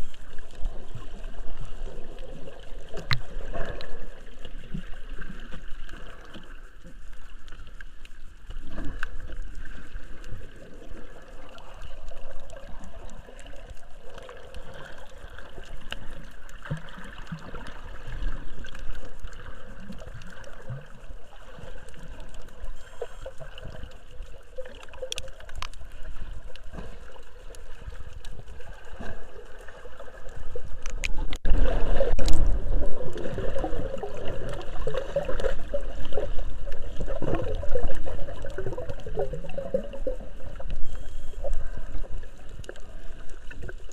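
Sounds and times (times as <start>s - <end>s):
sea water sloshing and gurgling: 0.0s - 43.9s.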